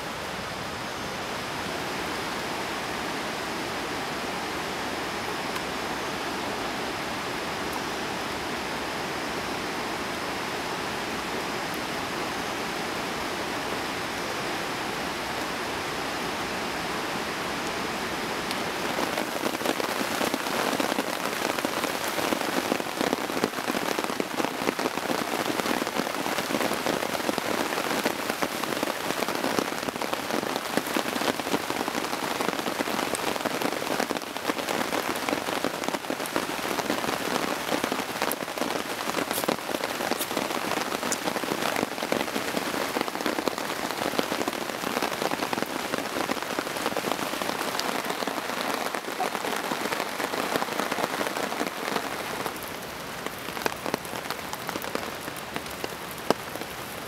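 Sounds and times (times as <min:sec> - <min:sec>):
heavy rain hissing: 0:00.0 - 0:57.0
patter of raindrops: 0:00.0 - 0:57.0.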